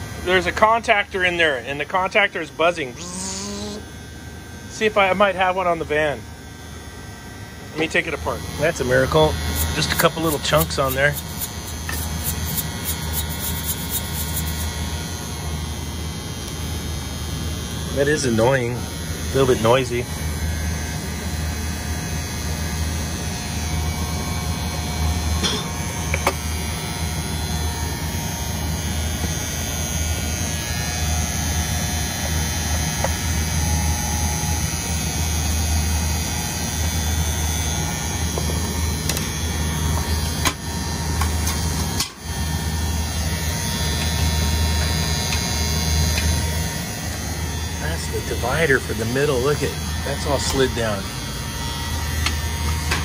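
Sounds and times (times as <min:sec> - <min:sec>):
electrical contactor buzzing: 0:00.0 - 0:53.0.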